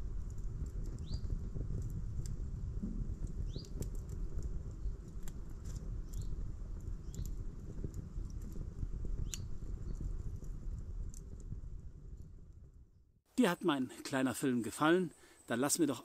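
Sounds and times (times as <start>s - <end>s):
fire popping: 0.0s - 13.2s
campfire crackling: 0.0s - 15.9s.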